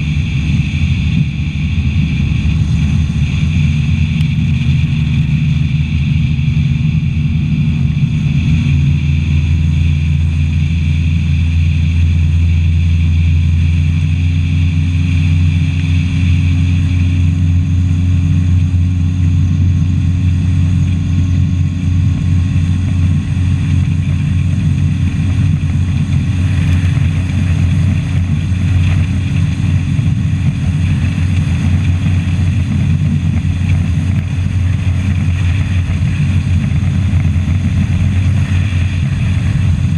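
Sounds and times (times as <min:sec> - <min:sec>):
outboard motor droning: 0:00.0 - 0:39.9
wind and water rushing: 0:00.0 - 0:39.9.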